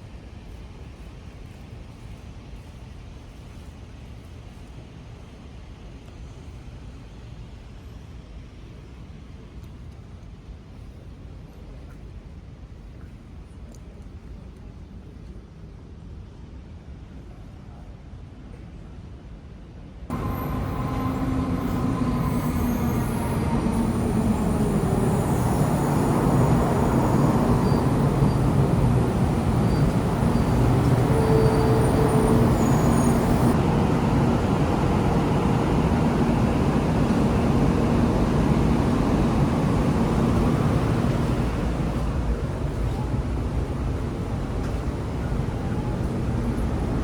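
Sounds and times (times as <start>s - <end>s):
train wheel and rail noise: 0.0s - 47.0s.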